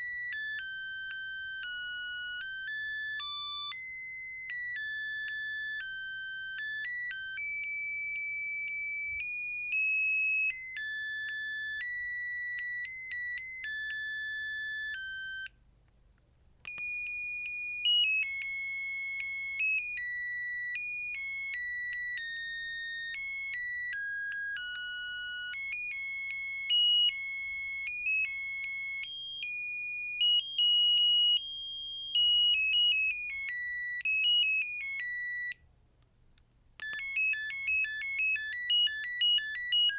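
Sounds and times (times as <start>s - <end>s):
mobile phone ringtone melody: 0.0s - 15.6s, 16.7s - 35.6s, 36.8s - 39.9s.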